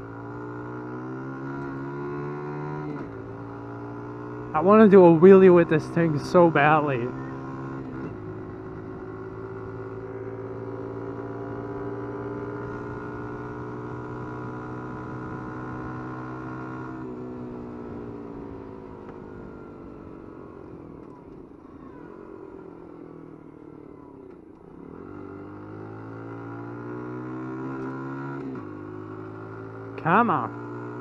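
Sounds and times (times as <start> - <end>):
small motorcycle engine revving: 0.1 - 4.5, 5.8 - 31.0.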